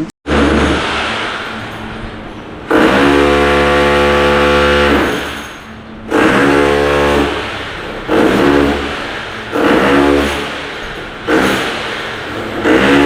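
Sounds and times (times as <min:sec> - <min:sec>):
power tool buzzing: 0:00.3 - 0:13.0.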